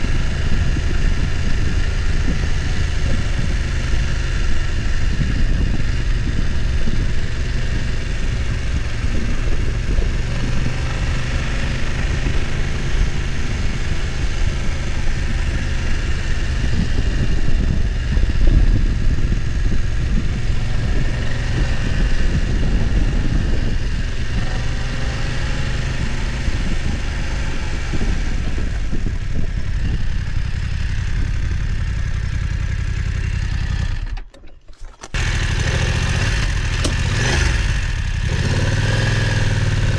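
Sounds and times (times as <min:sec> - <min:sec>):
engine knocking and rumble: 0:00.0 - 0:34.4, 0:35.0 - 0:39.9
motorcycle engine at low revs: 0:00.0 - 0:39.9.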